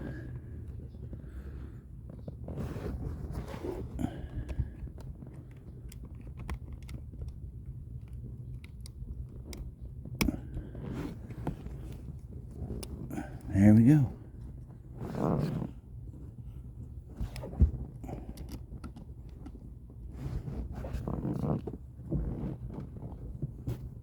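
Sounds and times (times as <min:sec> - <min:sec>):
hands assembling seat belt parts: 0:02.0 - 0:24.0.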